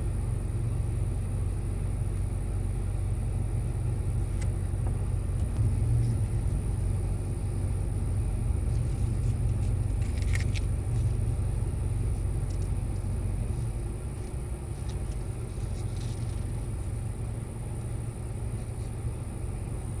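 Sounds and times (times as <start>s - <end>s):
car low rumble: 0.0s - 20.0s.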